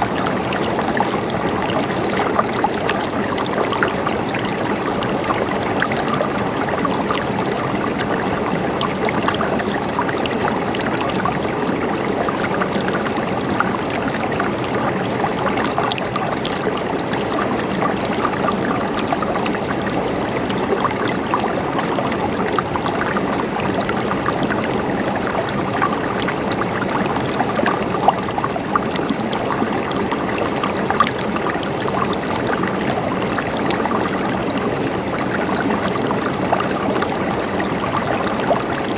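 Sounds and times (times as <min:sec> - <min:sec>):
stream of water trickling: 0:00.0 - 0:38.9.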